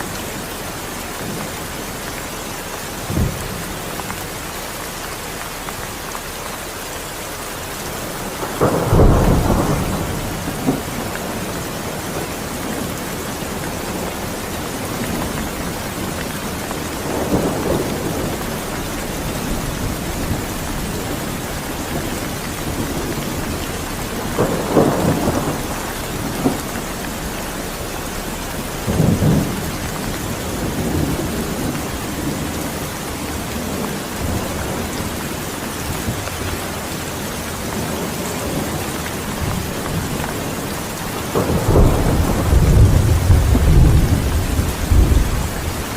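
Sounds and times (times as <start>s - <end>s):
steady rain falling: 0.0s - 45.9s
thunder rumbling: 7.8s - 45.9s.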